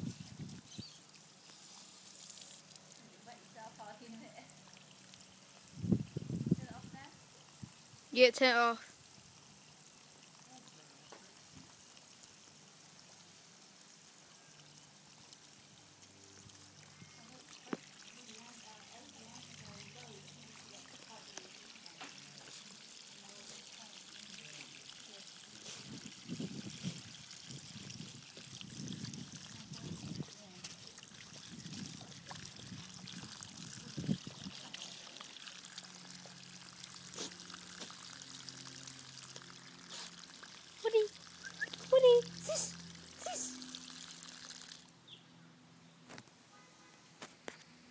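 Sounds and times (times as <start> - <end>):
garden hose spraying water: 0.0 - 45.2.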